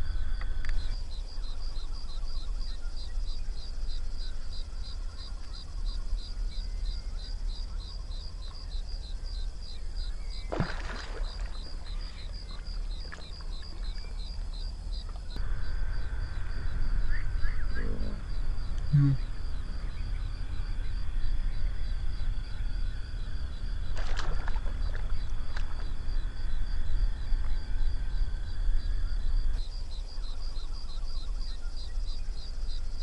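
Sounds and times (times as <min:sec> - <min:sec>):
low steady rumble: 0:00.0 - 0:10.5, 0:11.2 - 0:33.0
insect chirping: 0:00.0 - 0:33.0.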